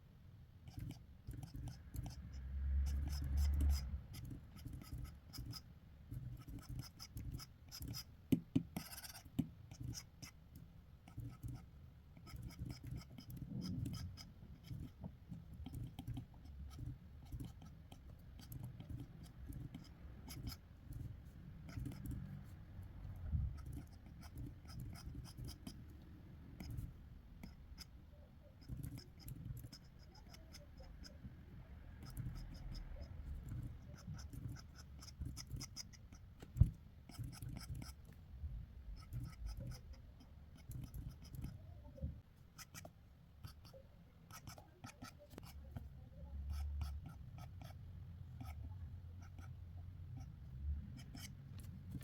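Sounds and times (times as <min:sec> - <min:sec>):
pencil scratching across paper: 0:00.6 - 0:10.4, 0:11.0 - 0:38.2, 0:38.9 - 0:52.0.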